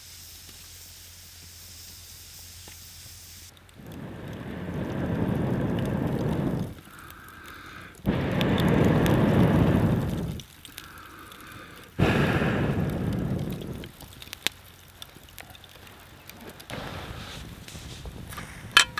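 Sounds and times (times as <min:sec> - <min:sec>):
fire crackling: 0:00.0 - 0:18.9
man blowing on embers: 0:00.0 - 0:18.9.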